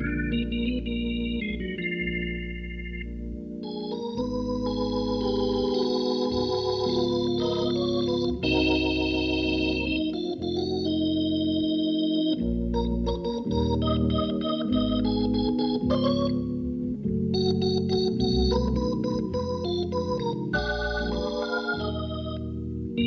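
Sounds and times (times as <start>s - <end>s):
bass line: 0.0s - 23.0s
organ chords: 0.0s - 23.0s.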